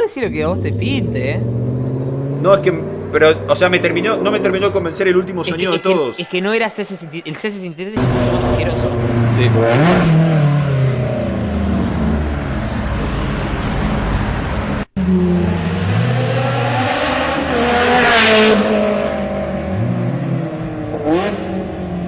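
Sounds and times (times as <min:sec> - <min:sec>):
sports car engine revving: 0:00.2 - 0:05.6, 0:08.0 - 0:22.0.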